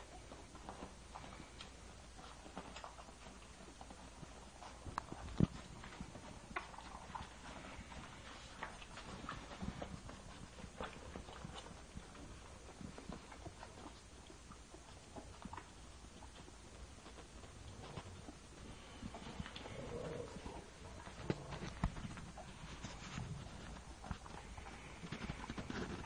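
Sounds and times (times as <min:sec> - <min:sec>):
puppies suckling wet clicks: 0:00.0 - 0:26.0.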